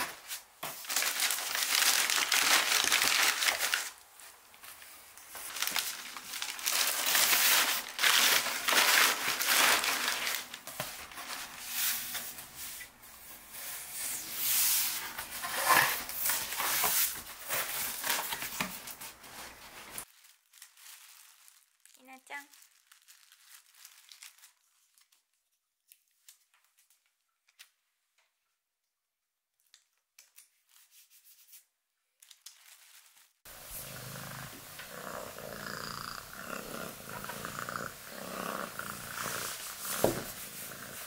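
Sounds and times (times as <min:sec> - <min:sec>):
wrapping crinkling and rustling: 0:00.0 - 0:28.3, 0:29.6 - 0:41.0.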